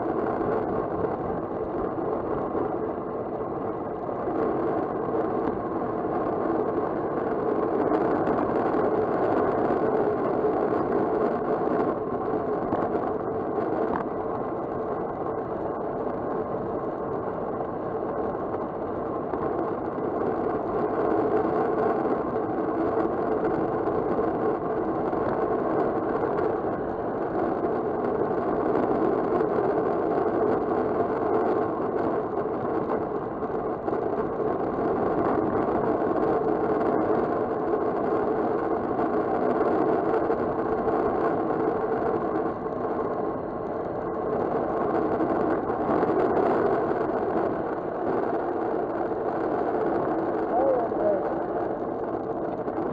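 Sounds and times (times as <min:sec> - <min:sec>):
bike tyres rolling on asphalt: 0:00.0 - 0:52.9
wind rushing over microphone: 0:00.0 - 0:52.9.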